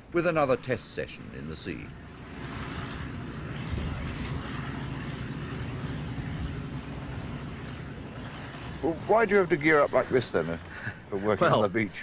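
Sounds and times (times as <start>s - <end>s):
constant hiss: 0.0s - 12.0s
engine humming: 0.7s - 12.0s.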